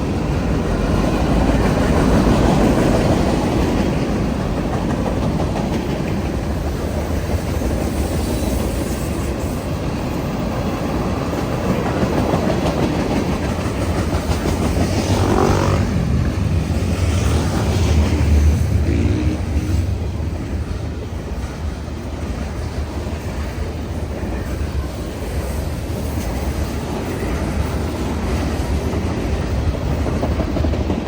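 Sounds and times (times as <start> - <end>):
train wheels clattering on rails: 0.0 - 31.0.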